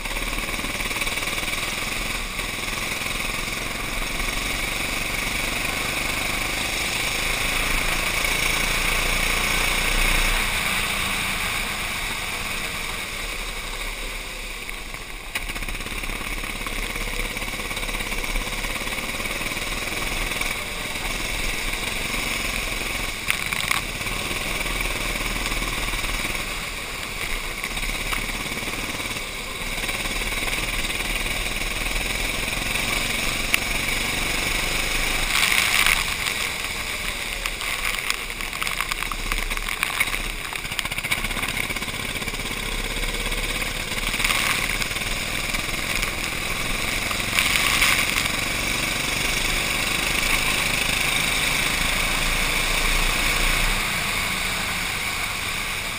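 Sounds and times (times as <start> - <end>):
racing kart engine running hard: 0.0 - 55.9
water hiss on wet track: 0.9 - 23.2, 24.1 - 55.9.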